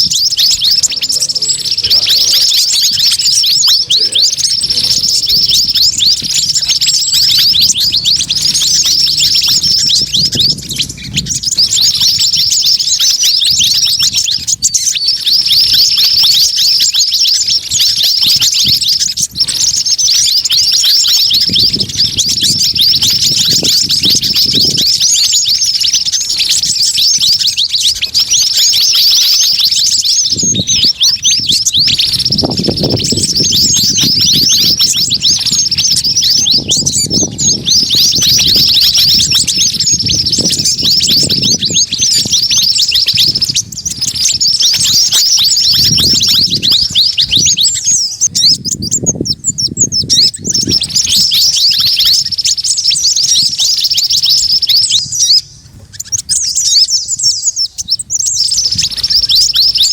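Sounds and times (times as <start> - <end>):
flock of songbirds chirping: 0.0 - 59.9.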